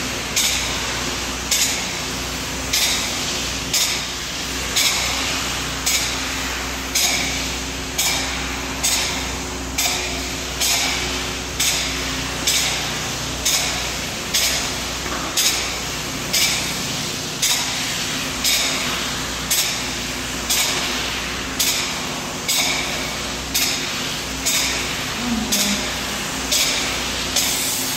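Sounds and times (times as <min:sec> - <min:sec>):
steady low hum: 0:00.0 - 0:27.9
spray foam gun hissing: 0:01.7 - 0:27.9.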